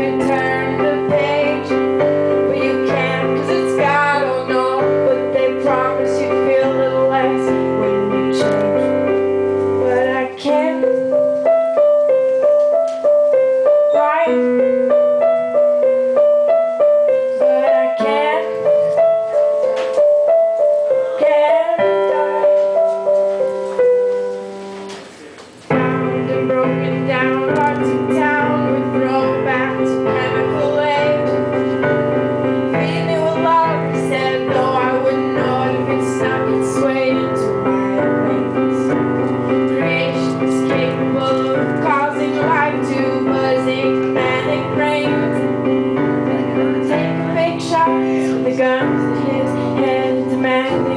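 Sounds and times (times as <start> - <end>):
piano-led song: 0.0 - 50.9.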